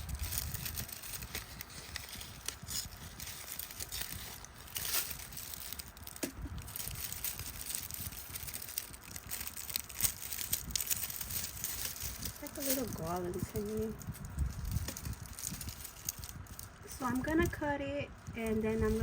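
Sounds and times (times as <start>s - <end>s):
hands rustling craft materials: 0.0s - 19.0s.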